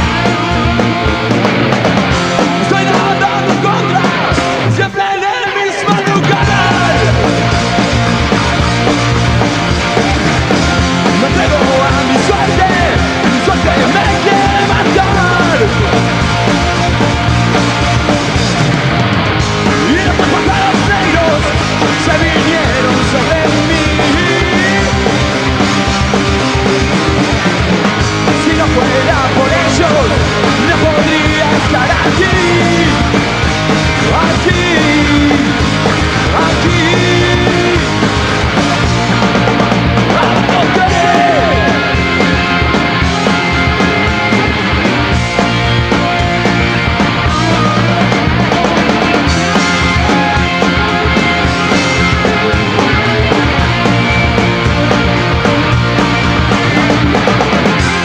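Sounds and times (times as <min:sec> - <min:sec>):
distorted electric guitars: 0:00.0 - 0:58.0
drums driving beat: 0:00.0 - 0:58.0
punk rock band playing: 0:00.0 - 0:58.0.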